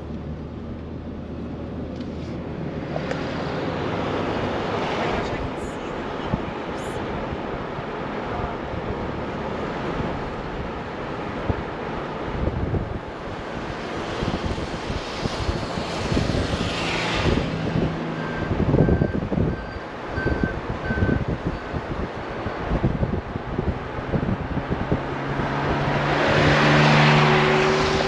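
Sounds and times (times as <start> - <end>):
road and engine noise: 0.0 - 28.0
rush of noise: 1.5 - 28.0.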